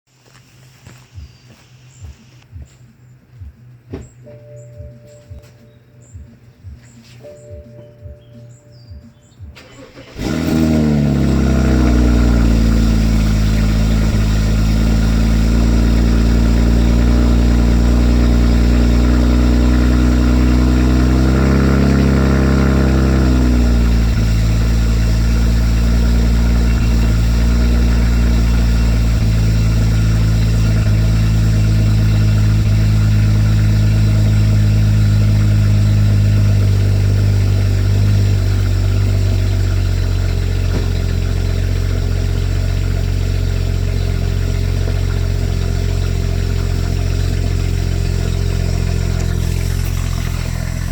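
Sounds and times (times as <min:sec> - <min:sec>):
car engine starting and idling: 0:09.3 - 0:50.9.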